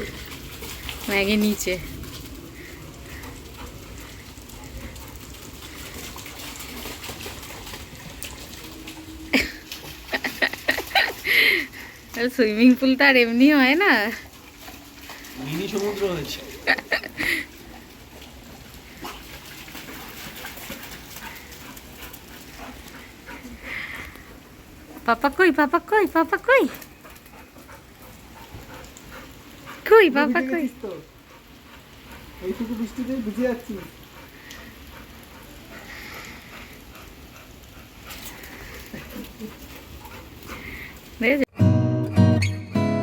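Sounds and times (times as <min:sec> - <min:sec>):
water splashing: 0:00.0 - 0:41.4
light rain falling: 0:00.0 - 0:41.5
puppy panting and whimpering: 0:01.9 - 0:12.1, 0:13.4 - 0:25.4, 0:26.0 - 0:41.2.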